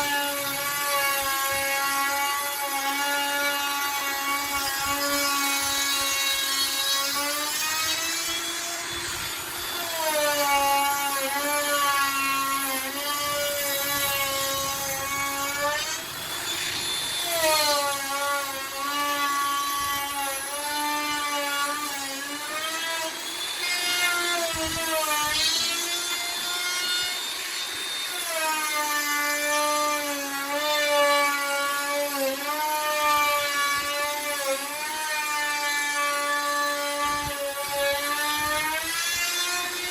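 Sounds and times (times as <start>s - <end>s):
electric router cutting wood: 0.0s - 39.9s.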